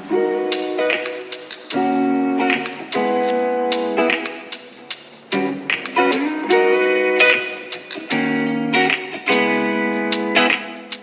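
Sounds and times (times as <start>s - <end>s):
plucked guitar-like instrumental music: 0.0s - 11.0s.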